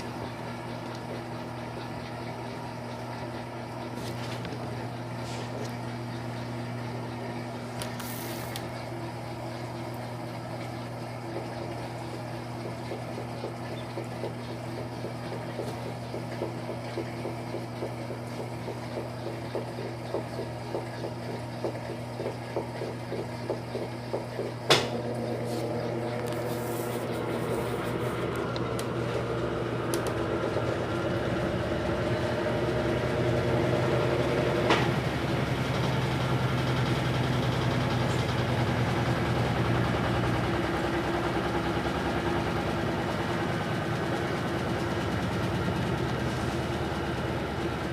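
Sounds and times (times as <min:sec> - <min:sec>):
motor humming: 0:00.0 - 0:47.9
washing machine churning: 0:00.0 - 0:47.9.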